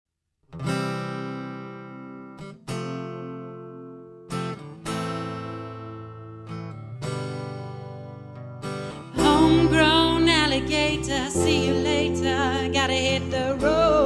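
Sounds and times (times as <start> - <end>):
acoustic guitar strumming: 0.5 - 14.0.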